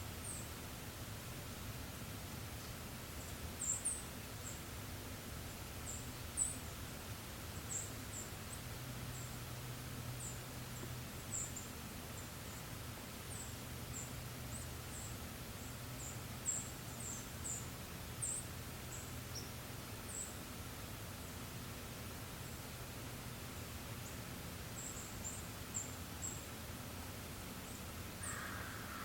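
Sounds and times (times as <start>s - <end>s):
soft steady hiss: 0.0s - 29.0s.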